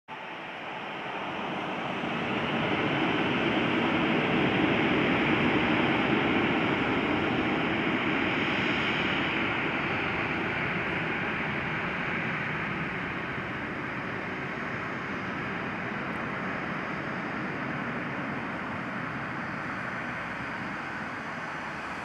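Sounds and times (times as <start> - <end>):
jet engines running: 0.1 - 22.0.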